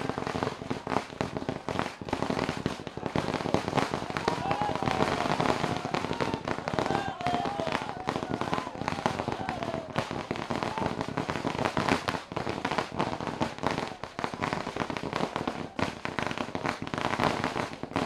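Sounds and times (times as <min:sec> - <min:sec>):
firecrackers popping: 0:00.0 - 0:18.0.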